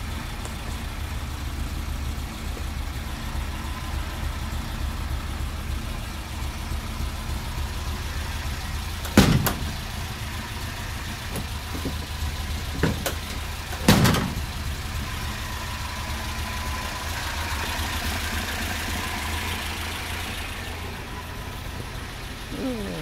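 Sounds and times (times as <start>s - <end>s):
car engine idling: 0.0s - 23.0s
engine knock: 0.0s - 23.0s.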